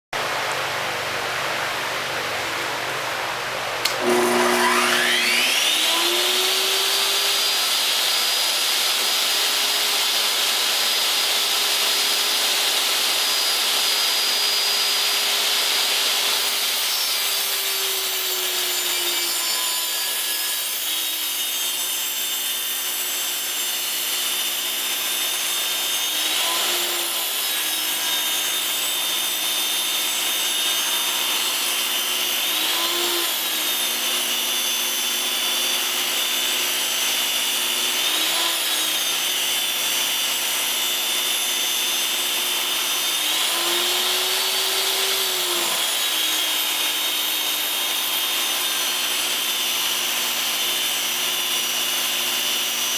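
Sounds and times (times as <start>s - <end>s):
table saw motor whine: 3.8s - 52.9s
table saw ripping a board: 3.8s - 52.9s.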